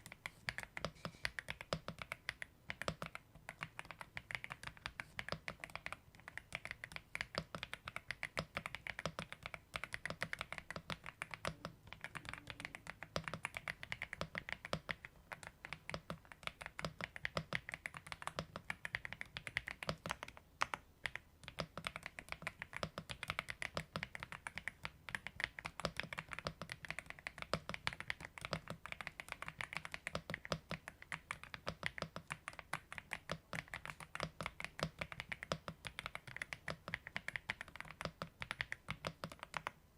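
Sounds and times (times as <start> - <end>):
fast typing on mechanical keyboard: 0.0 - 39.8.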